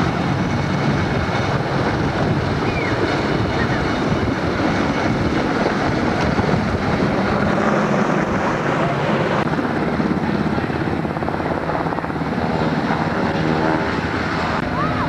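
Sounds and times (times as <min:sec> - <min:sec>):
helicopter flying close by: 0:00.0 - 0:15.0.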